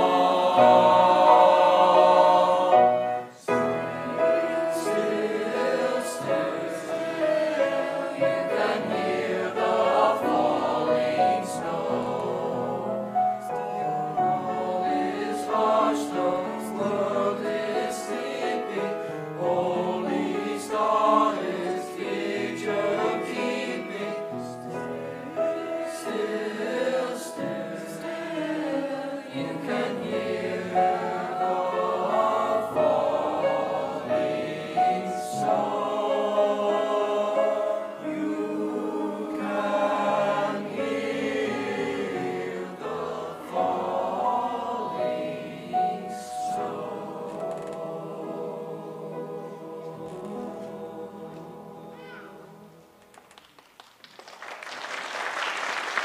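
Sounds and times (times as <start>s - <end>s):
choir singing: 0.0s - 53.0s
grand piano: 0.0s - 56.0s.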